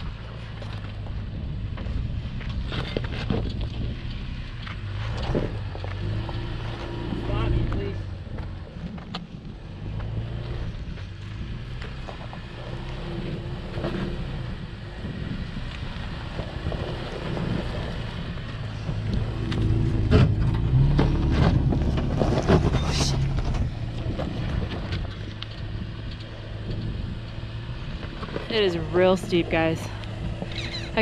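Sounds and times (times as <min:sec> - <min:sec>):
vehicle engine running under load: 0:00.0 - 0:31.0.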